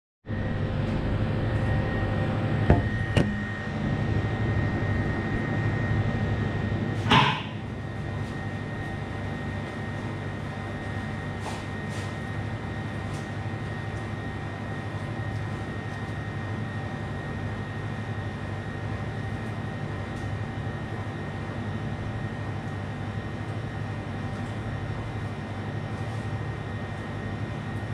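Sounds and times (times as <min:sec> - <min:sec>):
machine hum: 0:00.3 - 0:27.9.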